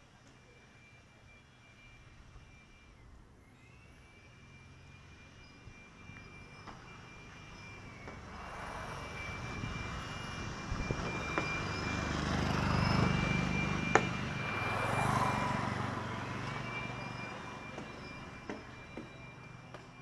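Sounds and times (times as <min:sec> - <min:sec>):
engine passing by: 0:03.6 - 0:19.8.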